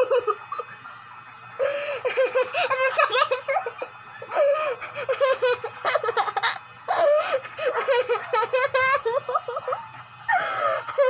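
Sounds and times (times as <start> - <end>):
girl giggling: 1.9 - 11.0.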